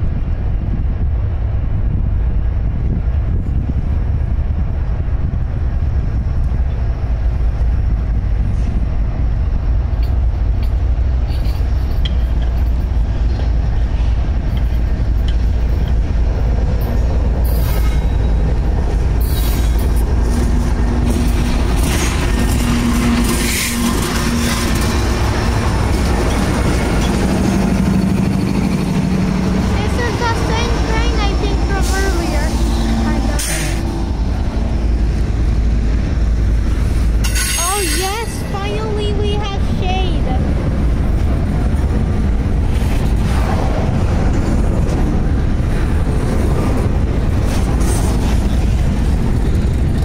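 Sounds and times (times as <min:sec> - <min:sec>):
diesel locomotive engines: 0:00.0 - 0:50.0
wheel and rail noise: 0:00.0 - 0:50.0.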